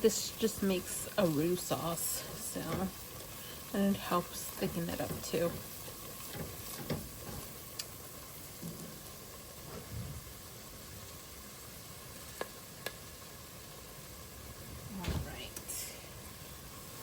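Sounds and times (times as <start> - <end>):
roux sizzling in a pan: 0.0 - 17.0.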